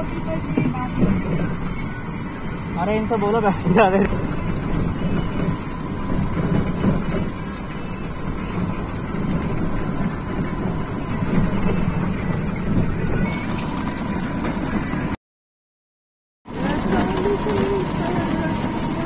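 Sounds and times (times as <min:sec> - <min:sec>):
rickshaw engine and tyre rumble: 0:00.0 - 0:15.2, 0:16.4 - 0:19.0.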